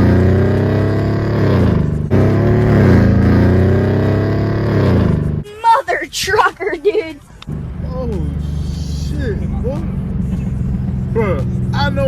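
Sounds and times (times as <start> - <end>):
car engine accelerating hard: 0.0 - 5.4, 7.4 - 12.0.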